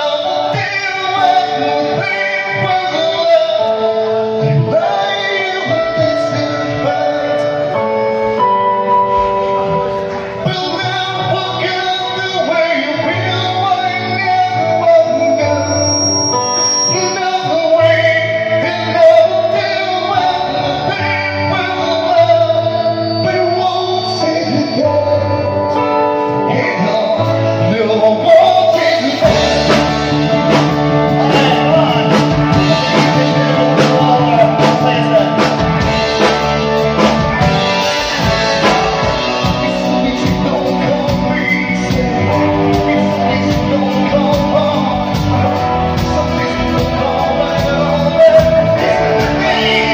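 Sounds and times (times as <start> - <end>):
drums: 0.0 - 49.9
electric guitar: 0.0 - 49.9
man singing into a microphone: 0.0 - 49.9.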